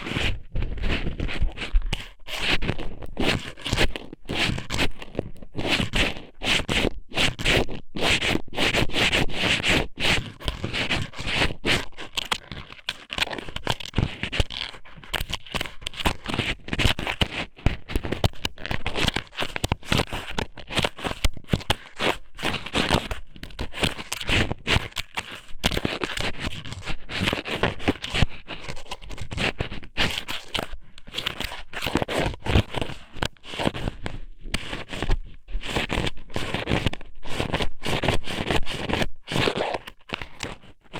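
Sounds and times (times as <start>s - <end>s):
squid rubbing on microphone: 0.0s - 40.9s.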